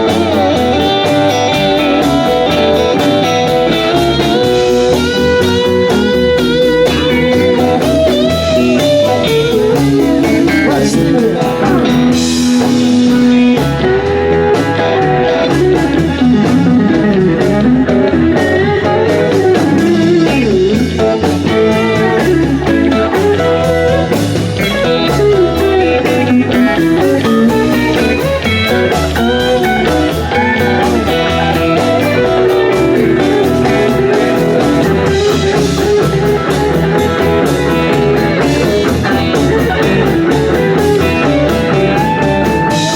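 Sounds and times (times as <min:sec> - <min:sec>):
blues-rock band playing: 0:00.0 - 0:42.9
guitar bending lead notes: 0:00.0 - 0:42.9.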